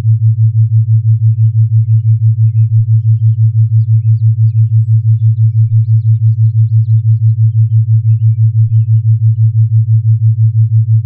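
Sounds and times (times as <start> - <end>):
throbbing low hum: 0.0 - 11.0.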